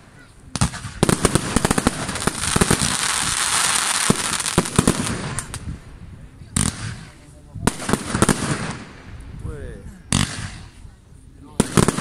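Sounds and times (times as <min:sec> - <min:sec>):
firework crackle: 0:00.0 - 0:09.4, 0:10.1 - 0:10.9, 0:11.5 - 0:12.0.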